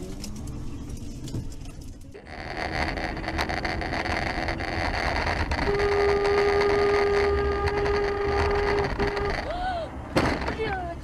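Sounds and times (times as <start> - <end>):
car road and cabin noise: 0.0 - 11.0.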